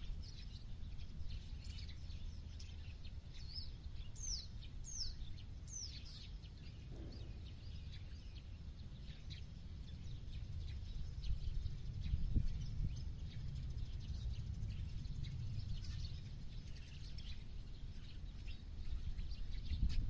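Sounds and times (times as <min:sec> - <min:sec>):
faint bird chirps: 0:00.0 - 0:20.0
high whistling bird calls: 0:00.0 - 0:20.0
low background rumble: 0:00.0 - 0:20.0.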